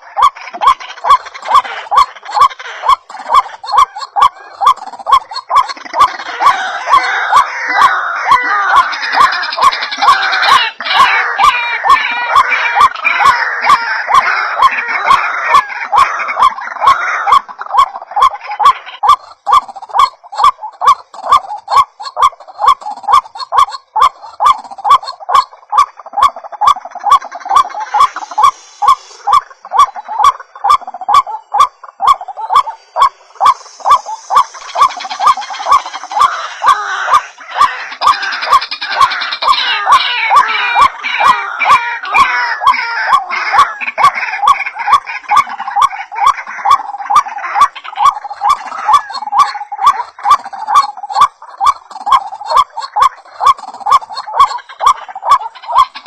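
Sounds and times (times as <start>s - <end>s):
bird harsh repeated calls: 0.0s - 56.0s.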